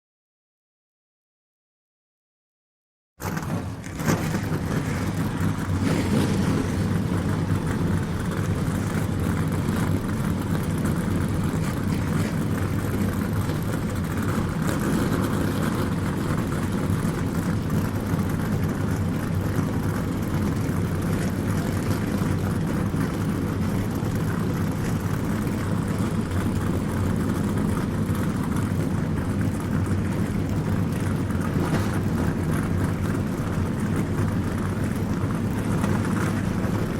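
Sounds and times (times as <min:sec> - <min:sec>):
race car engines droning: 0:03.2 - 0:36.9.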